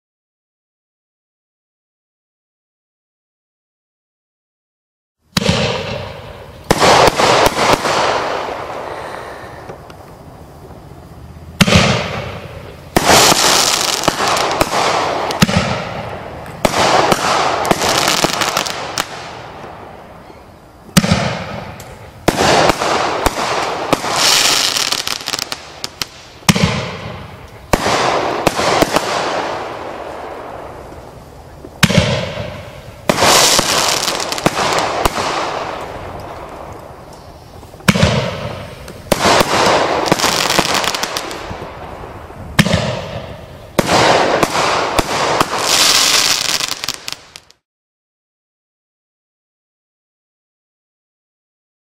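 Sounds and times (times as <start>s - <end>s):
firework crackling: 5.3s - 47.6s
firework reports: 5.3s - 47.6s.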